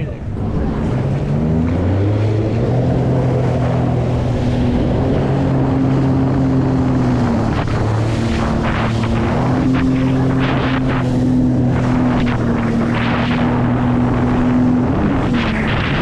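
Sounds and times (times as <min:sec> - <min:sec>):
watercraft engine running: 0:00.0 - 0:16.0
wind buffeting microphone: 0:00.0 - 0:16.0.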